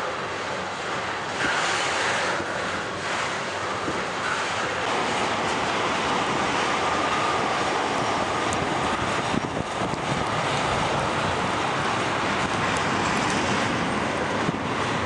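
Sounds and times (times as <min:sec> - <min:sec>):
steel wheels rushing on rail: 0:00.0 - 0:15.0.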